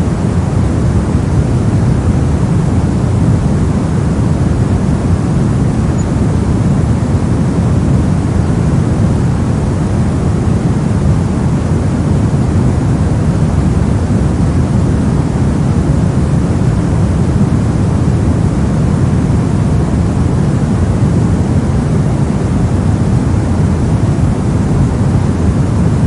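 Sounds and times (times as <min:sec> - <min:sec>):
brown noise deep rumble: 0:00.0 - 0:26.0.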